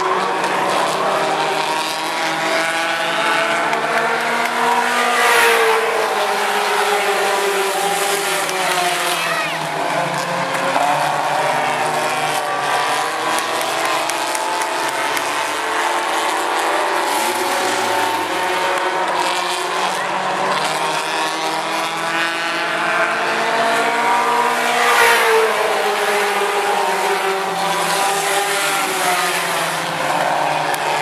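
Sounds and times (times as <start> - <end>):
racing truck engines passing: 0.0 - 31.0.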